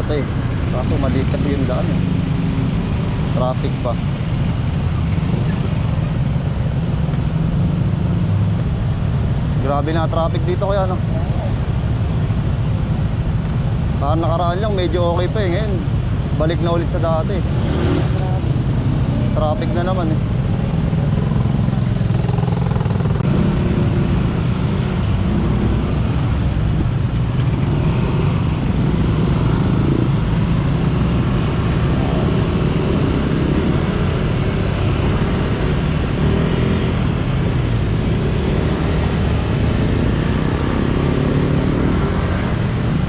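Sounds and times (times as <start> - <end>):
truck and car engines: 0.0 - 43.0.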